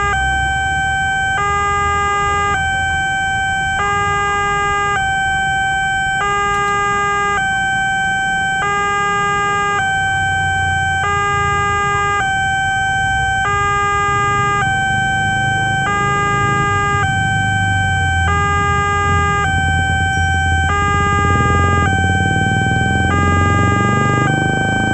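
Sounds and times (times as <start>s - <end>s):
level crossing two-tone alarm: 0.0s - 24.9s.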